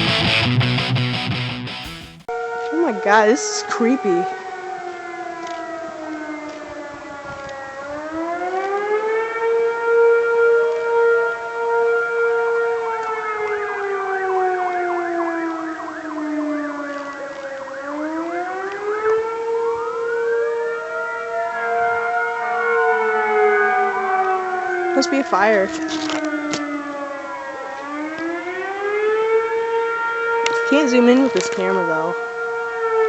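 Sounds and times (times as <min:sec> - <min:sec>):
warning sirens rising and falling: 0:00.0 - 0:33.0.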